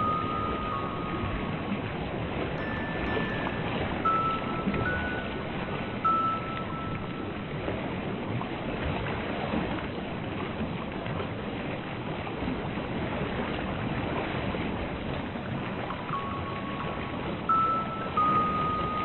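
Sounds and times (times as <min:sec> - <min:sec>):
ocean waves rushing: 0:00.0 - 0:10.2, 0:12.4 - 0:19.0.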